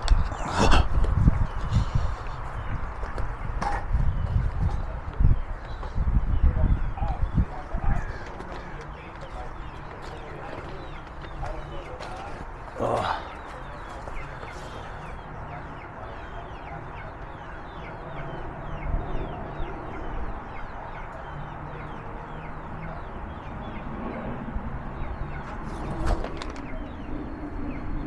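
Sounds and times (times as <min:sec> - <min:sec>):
hens clucking and chirping: 0:00.0 - 0:28.0.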